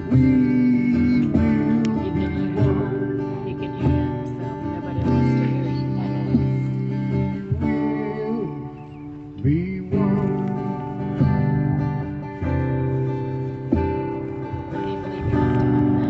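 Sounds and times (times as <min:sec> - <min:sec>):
hand drum strikes: 0:00.0 - 0:08.5, 0:09.6 - 0:16.0
strummed acoustic guitar: 0:00.0 - 0:16.0.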